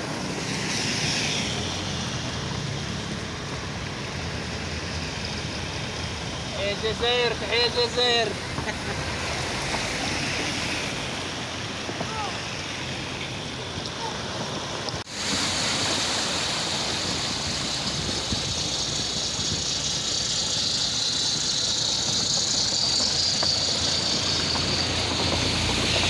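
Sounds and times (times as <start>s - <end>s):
car engines running: 0.0s - 26.0s
water sloshing around tyres: 0.0s - 26.0s.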